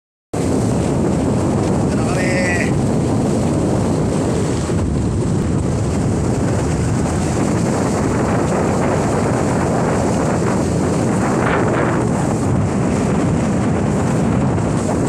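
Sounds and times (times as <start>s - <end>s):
boat engine running: 0.4s - 15.0s
wind buffeting microphone: 0.4s - 15.0s.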